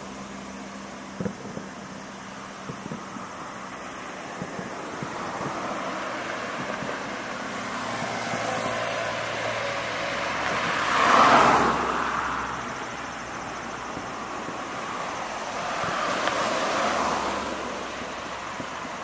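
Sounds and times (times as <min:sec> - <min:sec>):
outdoor background noise: 0:00.0 - 0:19.0
vehicle passing: 0:03.2 - 0:19.0.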